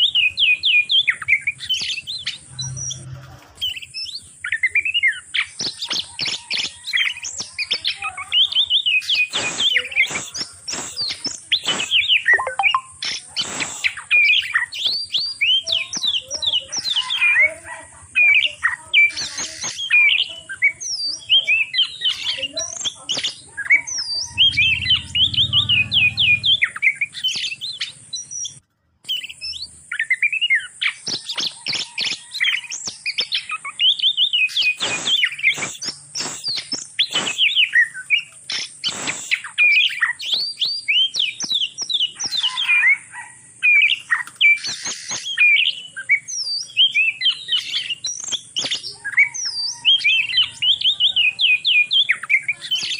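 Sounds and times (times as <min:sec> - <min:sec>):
bird chirps and whistles: 0:00.0 - 0:03.0, 0:03.6 - 0:17.4, 0:18.2 - 0:52.9
sharp bird clicks: 0:03.6 - 0:17.3, 0:19.0 - 0:42.8, 0:43.6 - 0:50.9.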